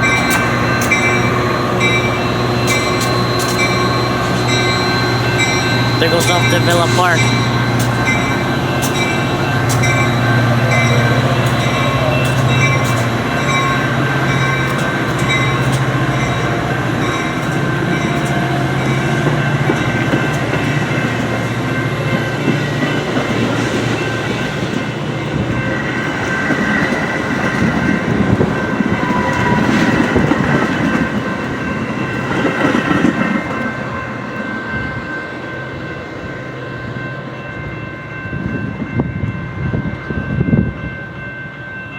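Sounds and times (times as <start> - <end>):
train cars clattering: 0.0 - 36.2
diesel locomotive hum: 0.0 - 41.9.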